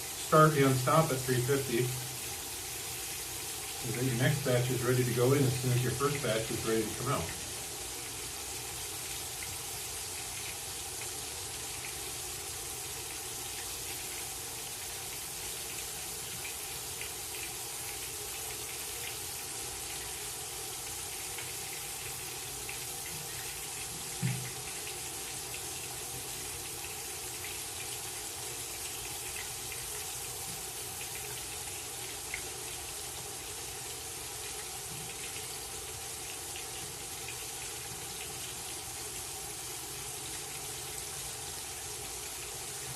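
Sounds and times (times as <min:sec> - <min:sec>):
fish sizzling in oil: 0:00.0 - 0:42.9.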